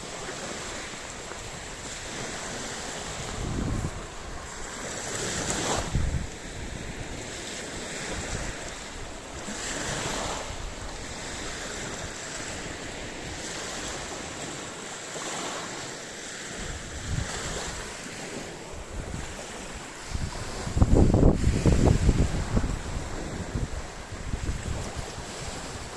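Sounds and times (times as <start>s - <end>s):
sea waves breaking on shore: 0.0s - 25.9s
wind gusting on microphone: 0.0s - 25.9s.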